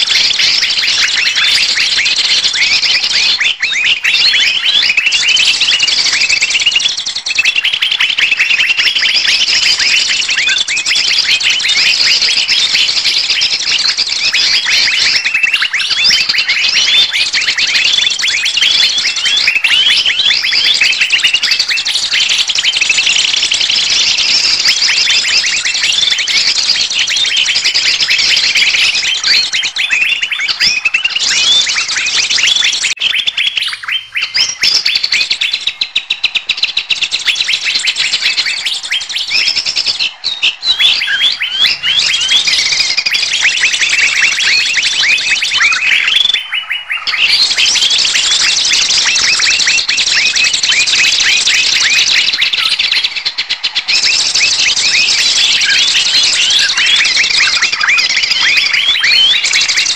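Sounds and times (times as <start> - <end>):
flock of songbirds chattering: 0.0 - 59.9.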